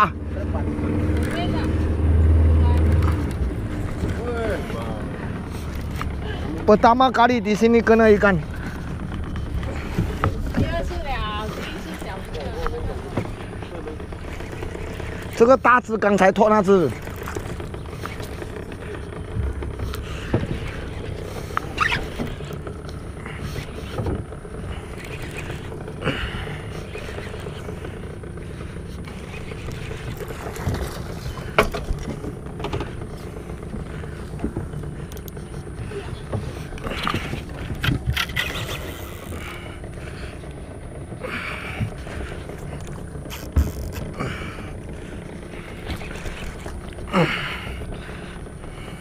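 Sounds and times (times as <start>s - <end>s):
outboard motor running: 0.0s - 49.0s.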